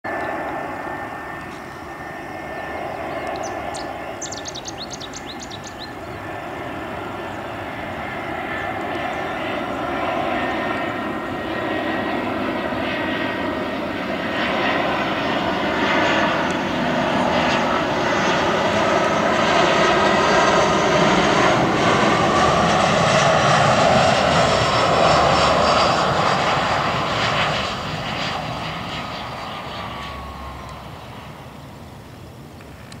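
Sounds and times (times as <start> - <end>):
jet airliner engines: 0.0 - 33.0.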